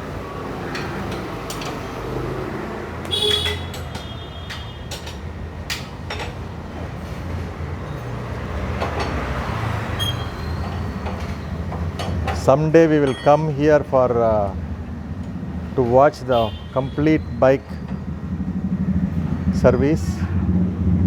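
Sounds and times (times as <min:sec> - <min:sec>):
vehicle engines passing: 0:00.0 - 0:21.0.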